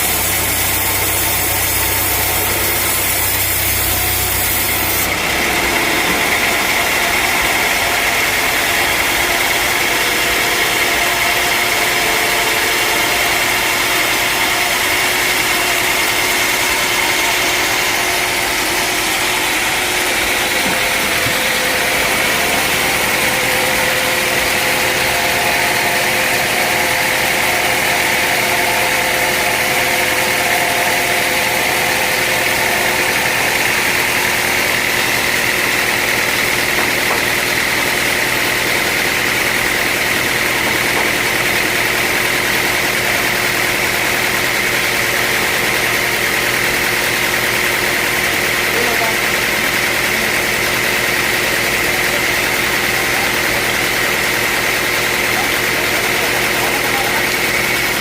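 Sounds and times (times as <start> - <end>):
engine hum: 0.0 - 58.0
saw high whine: 0.0 - 58.0.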